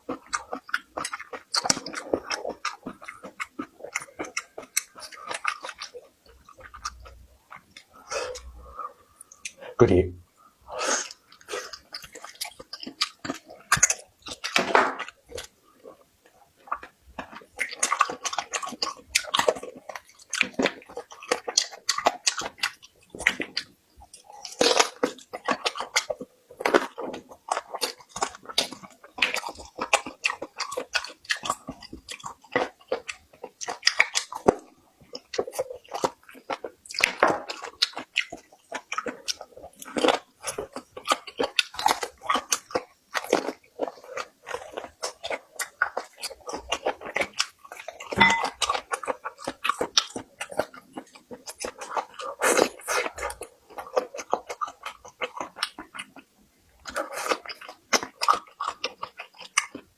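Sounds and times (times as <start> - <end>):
chewing and biting: 0.0 - 9.6, 10.8 - 59.9.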